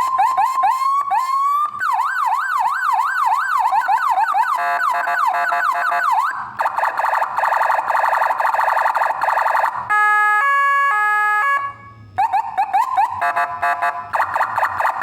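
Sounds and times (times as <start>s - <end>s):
electronic vehicle siren: 0.0s - 15.0s.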